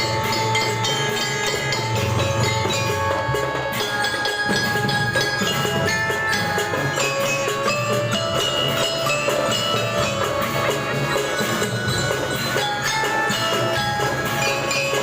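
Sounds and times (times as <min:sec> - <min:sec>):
drum strokes: 0:00.0 - 0:15.0
ringing melody notes: 0:00.0 - 0:15.0.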